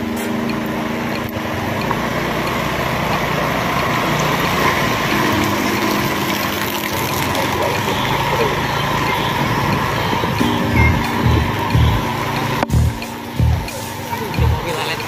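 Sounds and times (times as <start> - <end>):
motorcycle engine humming: 0.0 - 15.0
rain and tyres on wet road: 0.0 - 15.0.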